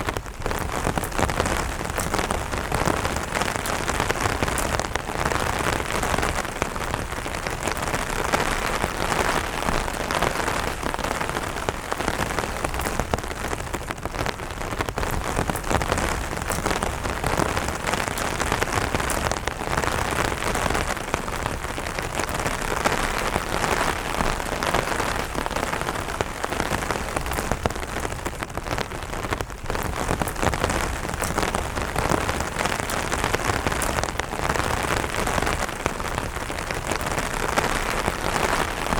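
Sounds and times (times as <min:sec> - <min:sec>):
rain on an umbrella: 0:00.0 - 0:38.9.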